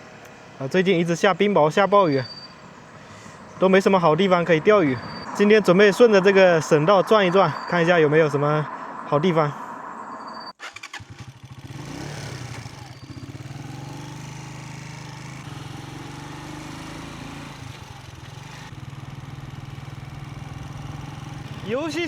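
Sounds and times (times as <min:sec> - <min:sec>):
vehicle engine driving: 0:00.0 - 0:10.2, 0:11.3 - 0:22.0.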